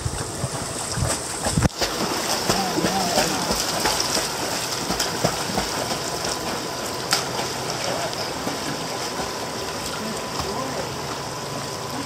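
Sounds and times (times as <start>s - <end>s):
pool water jets spraying: 0.0s - 12.0s
puppy paddling and splashing: 0.0s - 12.0s.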